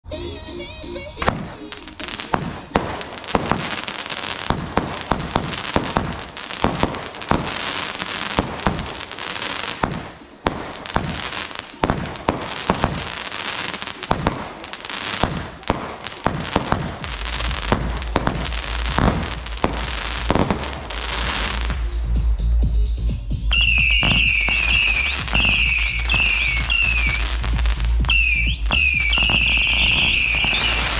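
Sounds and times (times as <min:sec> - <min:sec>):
fireworks crackling: 0:00.1 - 0:22.2, 0:23.5 - 0:30.9
fireworks bangs: 0:01.0 - 0:21.9, 0:23.5 - 0:30.9.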